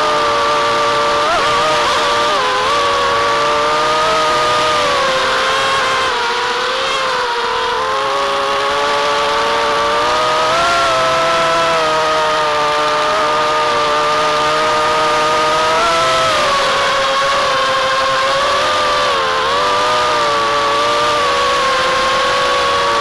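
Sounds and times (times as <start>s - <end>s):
drone motors and propellers whining: 0.0s - 23.0s.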